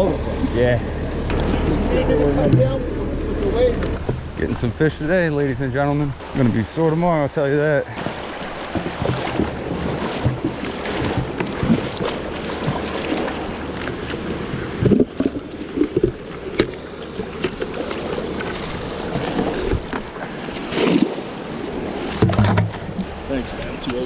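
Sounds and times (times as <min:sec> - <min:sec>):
creek water rushing: 0:00.0 - 0:24.0
short splashes and knocks: 0:01.3 - 0:24.0.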